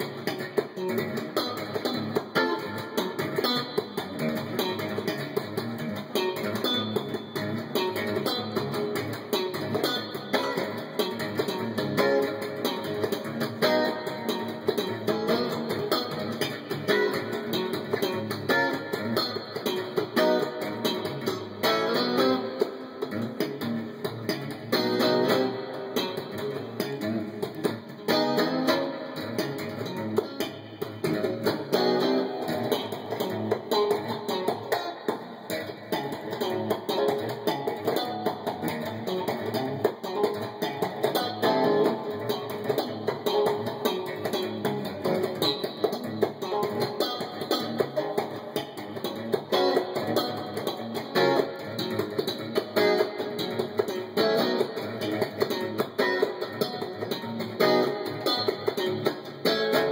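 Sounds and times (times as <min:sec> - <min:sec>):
slap electric guitar riffs: 0:00.0 - 0:59.9.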